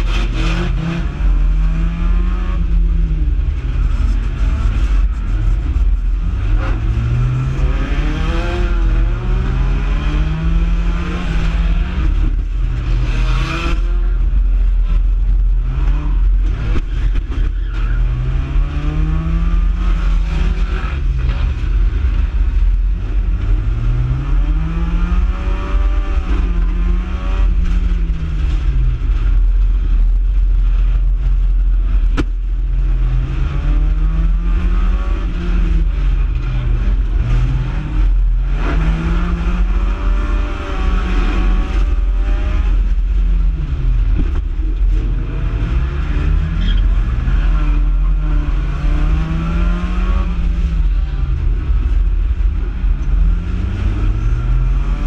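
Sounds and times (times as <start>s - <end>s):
low rumble of car shaking: 0.0s - 55.0s
race car engine revving: 0.0s - 55.0s.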